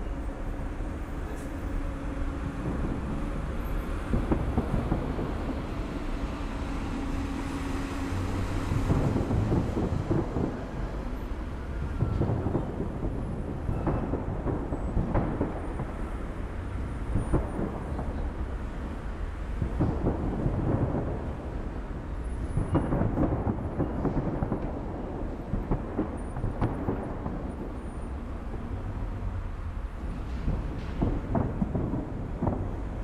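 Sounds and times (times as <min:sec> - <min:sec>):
fireworks booming: 0:00.0 - 0:33.0.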